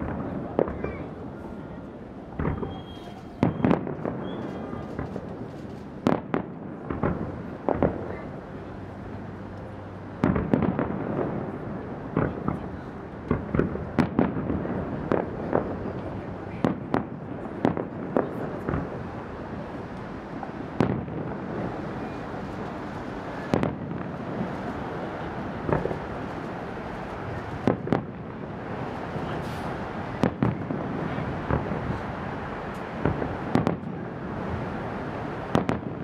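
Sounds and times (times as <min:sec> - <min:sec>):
fireworks booming: 0:00.0 - 0:09.1, 0:10.1 - 0:36.0.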